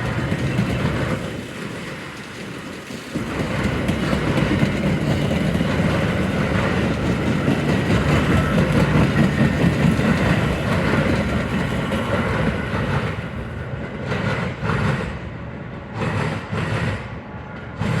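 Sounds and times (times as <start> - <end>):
train rushing noise: 0.0 - 18.0
train wheels clacking on rails: 0.0 - 18.0.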